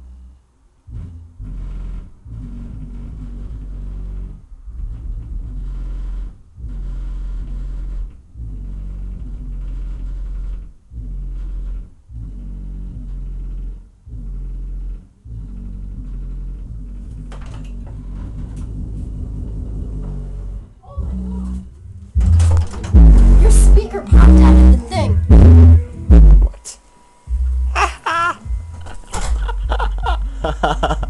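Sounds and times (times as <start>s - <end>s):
bass-heavy music through subwoofers: 0.0s - 26.6s, 27.3s - 31.0s.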